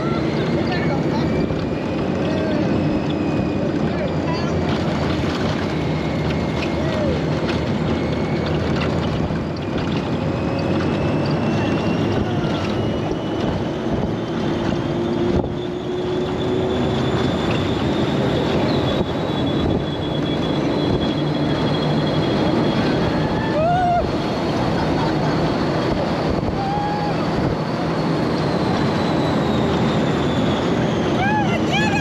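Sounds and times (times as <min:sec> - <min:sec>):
rush of wind and running noise: 0:00.0 - 0:32.0
thin whine: 0:00.0 - 0:32.0.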